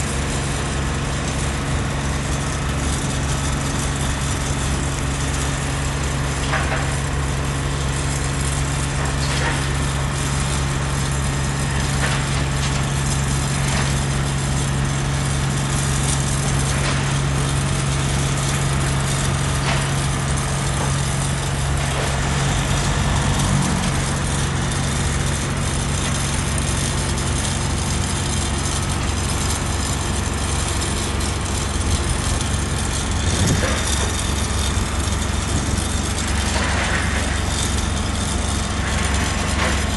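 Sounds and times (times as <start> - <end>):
boom lift diesel engine running: 0.0 - 39.9.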